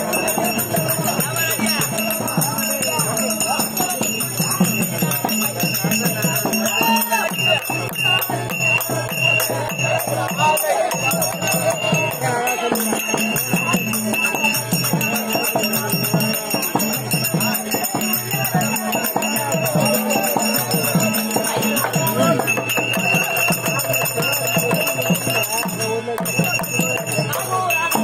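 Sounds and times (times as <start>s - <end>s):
jingling bells: 0.0s - 28.0s.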